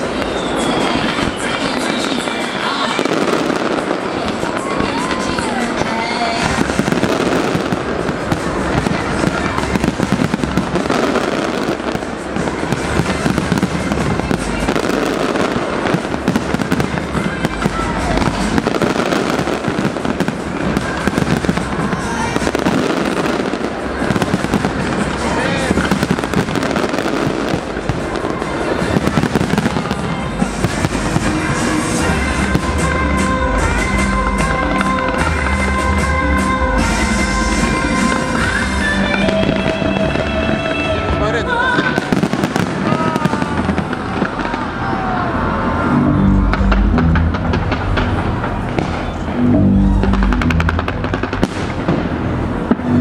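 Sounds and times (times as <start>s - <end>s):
fireworks bangs and crackles: 0.0s - 53.0s
music: 0.0s - 53.0s.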